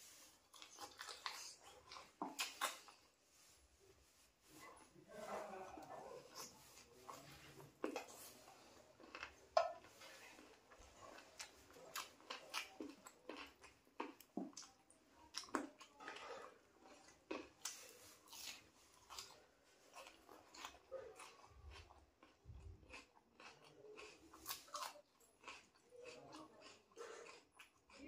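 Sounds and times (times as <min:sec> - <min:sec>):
man chewing with wet smacks: 0:00.1 - 0:03.5, 0:05.8 - 0:28.0.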